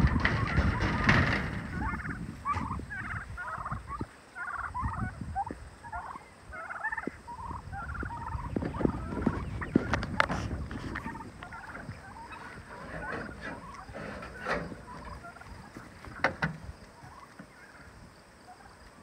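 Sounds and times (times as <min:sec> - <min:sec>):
turkeys gobbling: 0:00.0 - 0:19.0.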